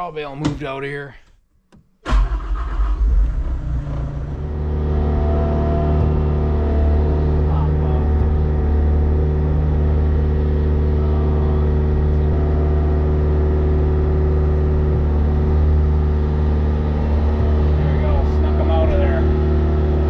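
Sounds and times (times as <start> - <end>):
skid steer engine running: 3.5 - 20.0.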